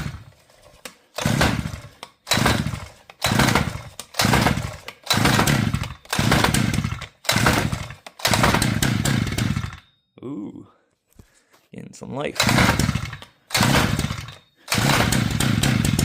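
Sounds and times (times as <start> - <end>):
engine cranking by pull cord: 0.0 - 9.9, 12.4 - 16.0.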